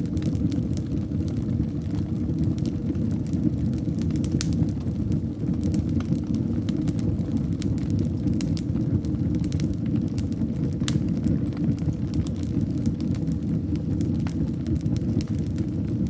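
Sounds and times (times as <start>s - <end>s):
fire crackling and popping: 0.0s - 16.0s
flames rumbling: 0.0s - 16.0s.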